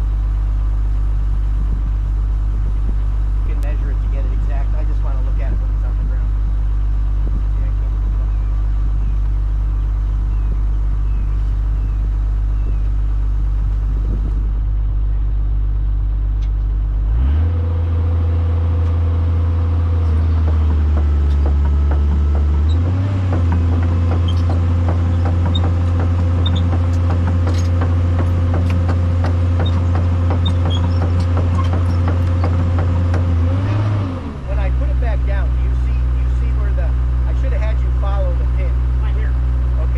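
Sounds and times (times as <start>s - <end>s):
excavator diesel engine revving: 0.0s - 39.9s.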